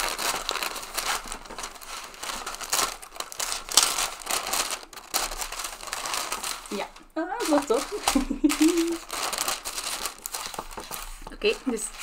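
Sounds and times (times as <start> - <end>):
tissue paper crinkling: 0.0 - 12.0.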